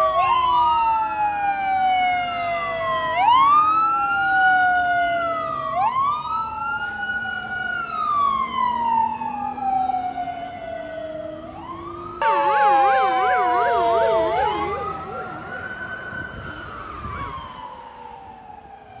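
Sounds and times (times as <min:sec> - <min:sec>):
fire engine sirens wailing: 0:00.0 - 0:19.0
siren yelp: 0:00.0 - 0:19.0.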